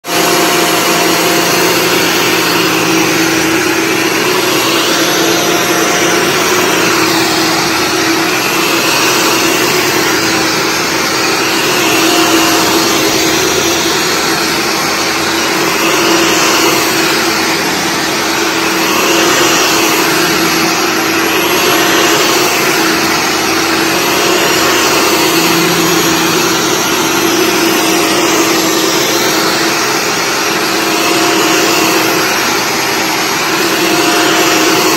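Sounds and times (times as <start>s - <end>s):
vacuum cleaner on carpet: 0.0s - 34.9s.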